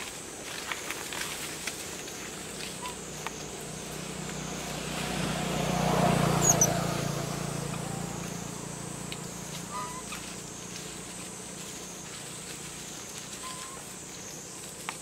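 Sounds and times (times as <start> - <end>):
vehicle engine passing: 1.4 - 14.7.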